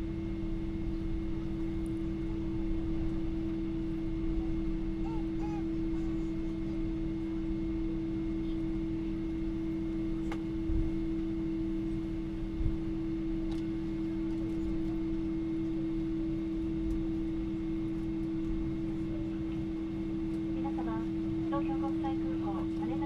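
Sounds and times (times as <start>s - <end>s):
airplane cabin drone: 0.0s - 23.0s
low hum tones: 0.0s - 23.0s.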